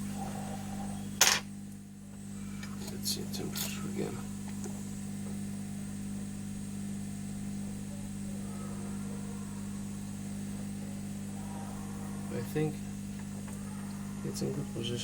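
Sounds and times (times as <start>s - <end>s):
hot-air gun electrical hum: 0.0s - 15.0s.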